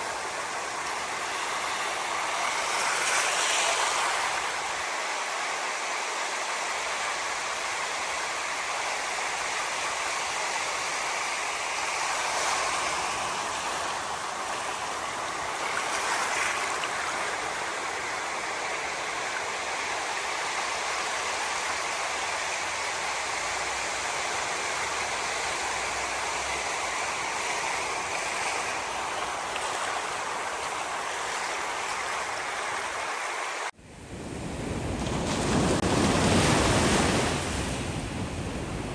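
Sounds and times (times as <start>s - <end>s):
ocean surf: 0.0s - 38.9s
rushing water: 0.0s - 38.9s.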